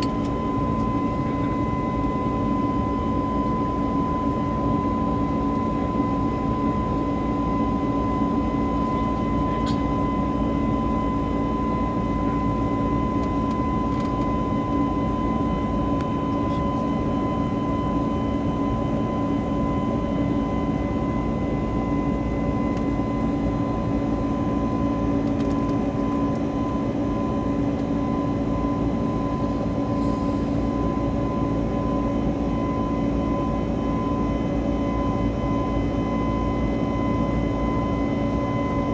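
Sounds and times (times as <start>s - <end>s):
constant whine: 0.0s - 38.9s
jet engine and airflow hum: 0.0s - 38.9s.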